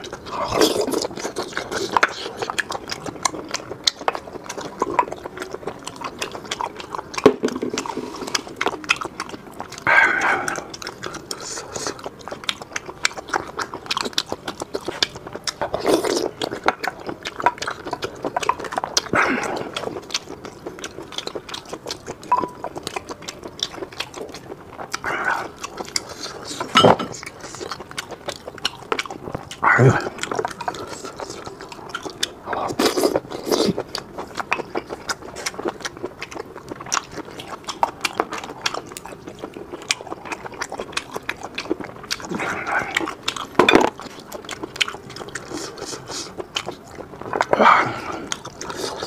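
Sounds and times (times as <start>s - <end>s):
chewing and lip-smacking: 0.0s - 49.0s.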